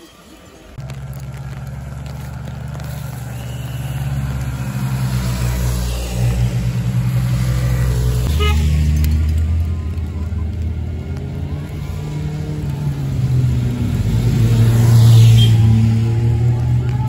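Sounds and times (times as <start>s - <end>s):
motorbike engines running: 0.8s - 17.0s.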